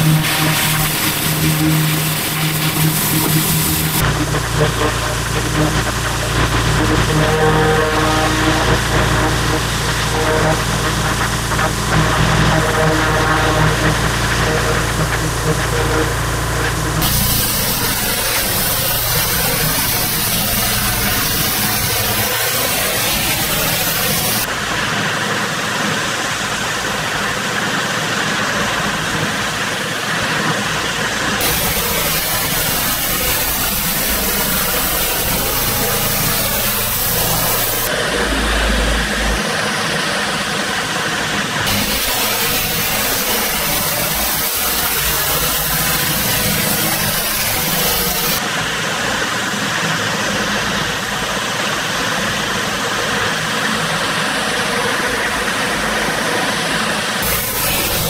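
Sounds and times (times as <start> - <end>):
high-pressure water jet hissing: 0.0 - 58.0
pressure washer engine running: 0.0 - 58.0.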